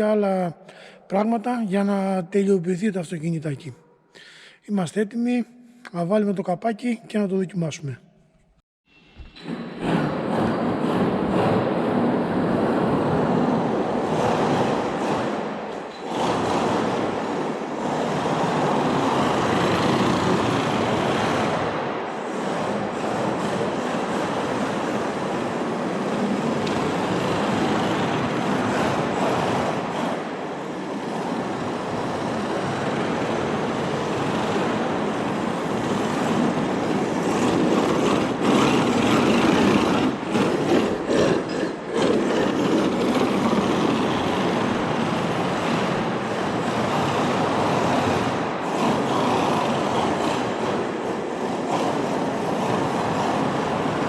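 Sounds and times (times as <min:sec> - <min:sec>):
rc car tyres rolling and scrubbing: 0:09.8 - 0:54.0.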